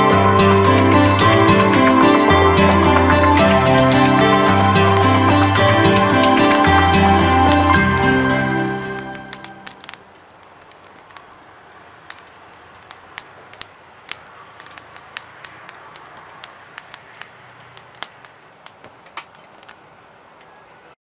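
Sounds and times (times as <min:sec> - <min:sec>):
pellet fire crackling: 0:00.0 - 0:20.8.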